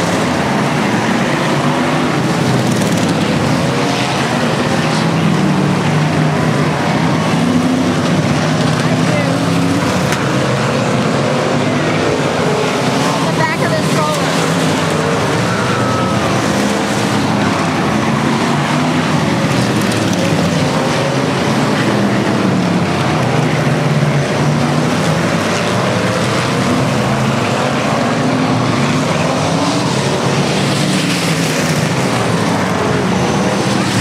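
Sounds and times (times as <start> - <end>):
race car engines droning: 0.0 - 34.0.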